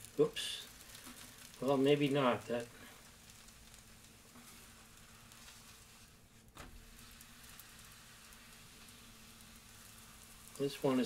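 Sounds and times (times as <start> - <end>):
crepe sizzling on hot plate: 0.0 - 11.0.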